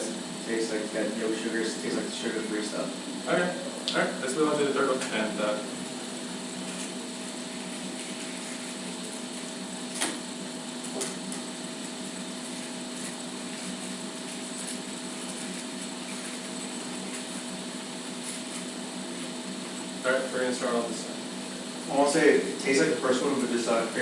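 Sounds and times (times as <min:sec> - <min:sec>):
room hum and hiss: 0:00.0 - 0:24.0.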